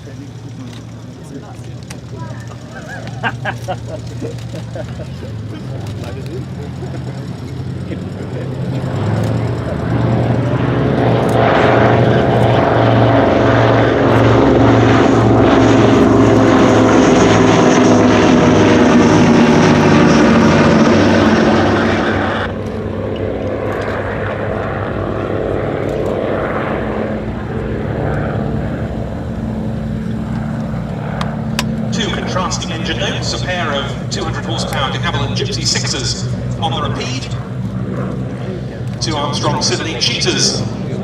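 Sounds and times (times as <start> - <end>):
propeller planes droning past: 0.0 - 41.0.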